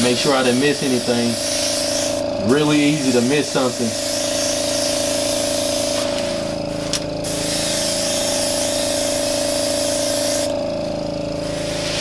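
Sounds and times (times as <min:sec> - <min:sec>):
airbrush spraying hiss: 0:00.0 - 0:10.6, 0:11.4 - 0:12.0
steady hum: 0:00.0 - 0:12.0.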